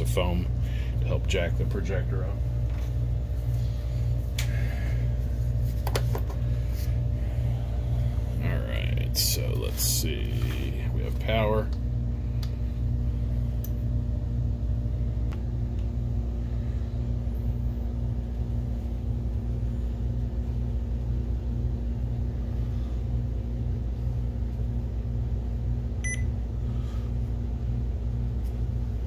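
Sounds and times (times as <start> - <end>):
projector cooling fans humming: 0.0 - 29.0.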